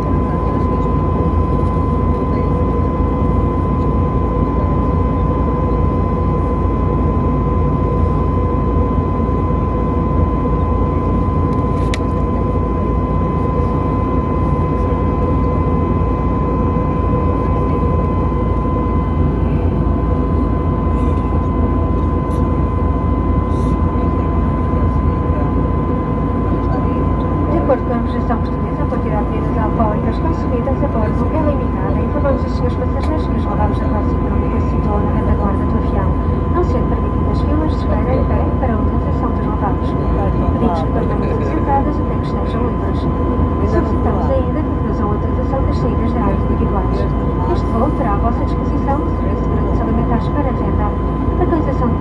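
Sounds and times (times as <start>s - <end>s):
aircraft cabin engine rumble: 0.0s - 52.0s
constant hum-like tone: 0.0s - 52.0s.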